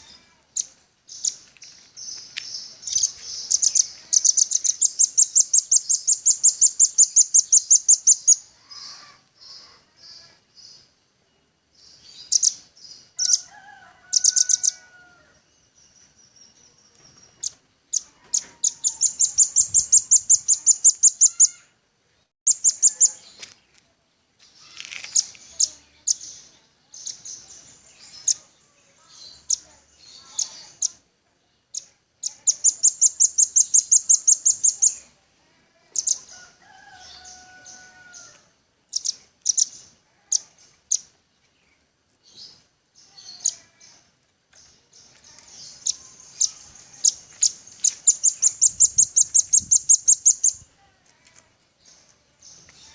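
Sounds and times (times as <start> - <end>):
bird calling with chips and trills: 0.0 - 10.9, 11.8 - 21.8, 22.5 - 23.8, 24.4 - 35.1, 35.8 - 52.9.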